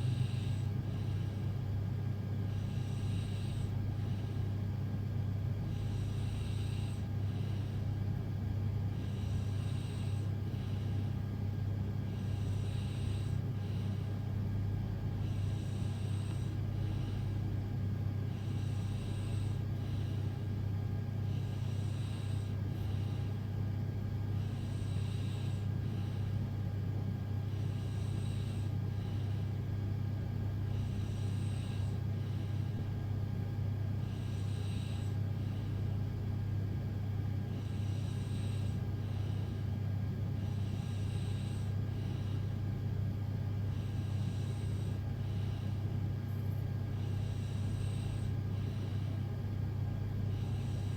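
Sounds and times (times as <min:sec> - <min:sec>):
person breathing in sleep: 0:00.0 - 0:26.6, 0:27.2 - 0:29.6, 0:30.7 - 0:33.0, 0:33.8 - 0:36.3, 0:37.5 - 0:42.9, 0:43.6 - 0:49.3, 0:50.3 - 0:50.9
steady low hum: 0:00.0 - 0:50.9.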